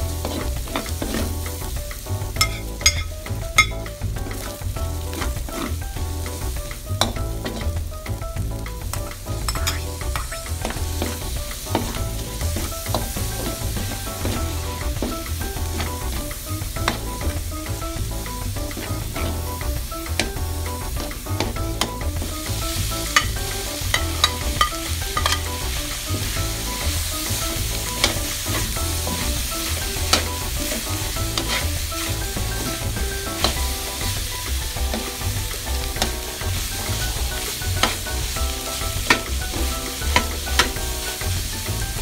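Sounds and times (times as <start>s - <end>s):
food sizzling in wok: 0.0s - 42.0s
spatula knocking pan: 0.0s - 42.0s
metal spatula scraping wok: 0.1s - 1.8s, 2.4s - 7.8s, 9.4s - 17.9s, 18.6s - 19.6s, 20.2s - 41.3s.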